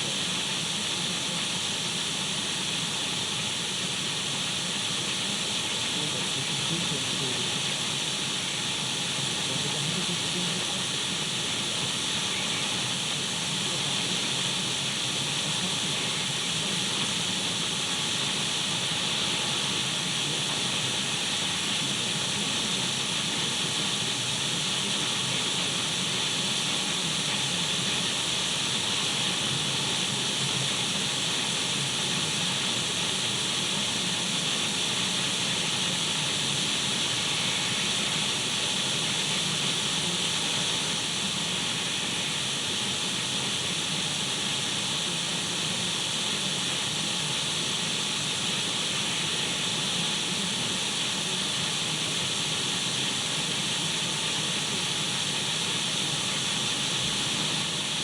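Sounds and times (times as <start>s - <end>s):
radio static hiss: 4.8s - 58.0s.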